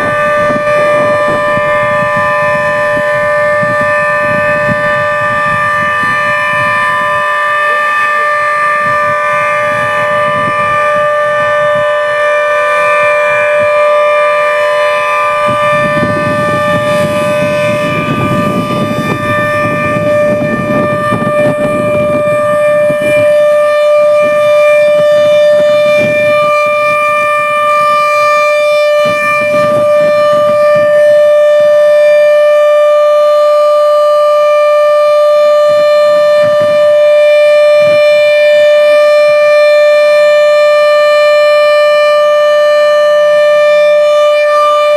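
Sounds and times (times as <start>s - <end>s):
air-raid siren steady tone: 0.0s - 44.9s.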